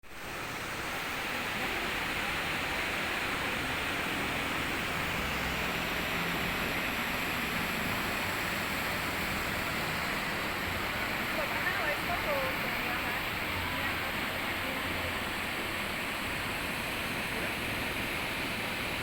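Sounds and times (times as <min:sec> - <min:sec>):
river water rushing: 0:00.1 - 0:19.0.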